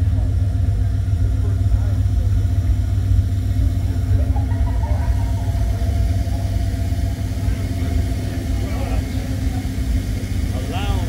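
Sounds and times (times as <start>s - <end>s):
car engine idling: 0.0s - 11.0s
faint voices: 0.0s - 11.0s.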